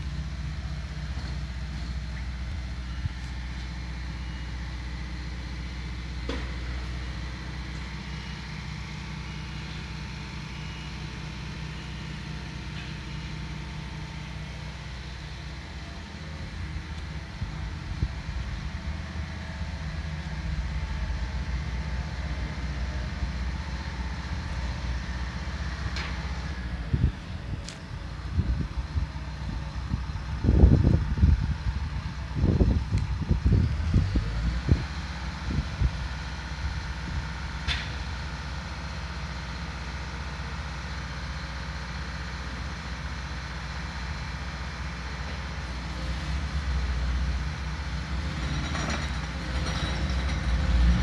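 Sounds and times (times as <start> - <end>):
heavy diesel engine rumbling: 0.0 - 51.0.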